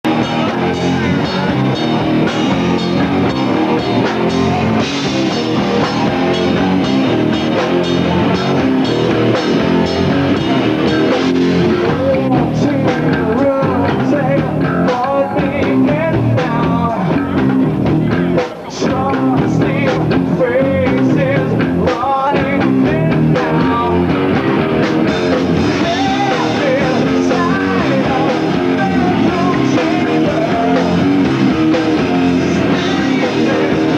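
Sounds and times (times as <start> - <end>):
drum kit: 0.0 - 33.9
electric guitars: 0.0 - 33.9.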